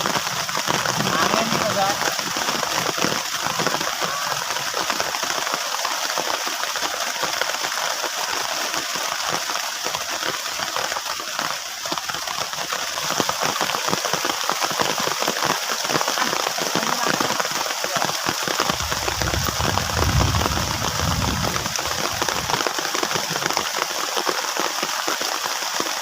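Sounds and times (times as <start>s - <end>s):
heavy rain on a plastic tarp: 0.0s - 26.0s.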